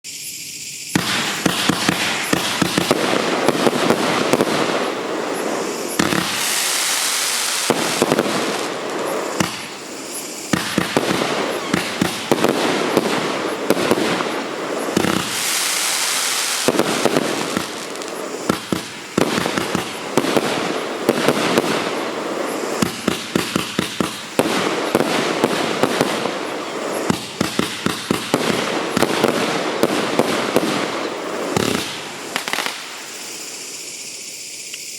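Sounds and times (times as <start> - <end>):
loud fireworks hissing: 0.0 - 34.9
fireworks launch thumps and bursts: 0.9 - 33.4.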